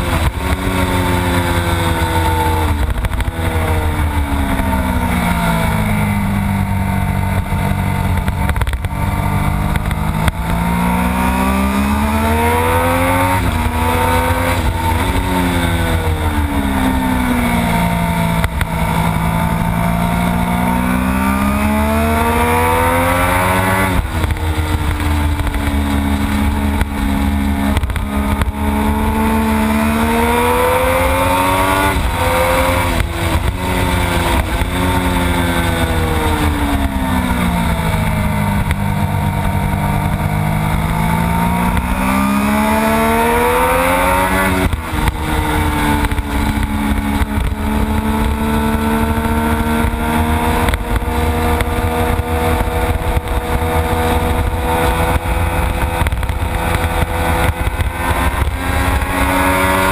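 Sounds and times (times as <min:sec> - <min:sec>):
motorcycle engine revving and upshifting: 0:00.0 - 0:59.9
wind rushing over camera: 0:00.0 - 0:59.9.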